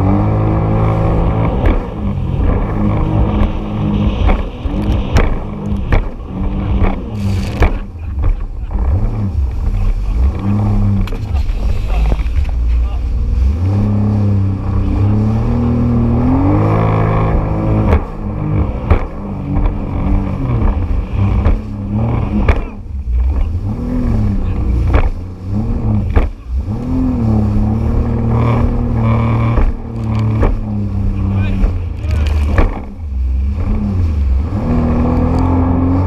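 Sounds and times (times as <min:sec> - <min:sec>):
hull slapping on waves: 0:00.0 - 0:36.0
jet ski engine revving: 0:00.0 - 0:36.0.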